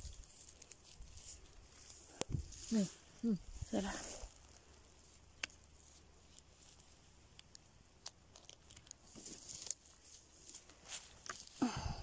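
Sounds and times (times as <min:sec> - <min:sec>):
twigs and moss crackling: 0:00.0 - 0:12.0.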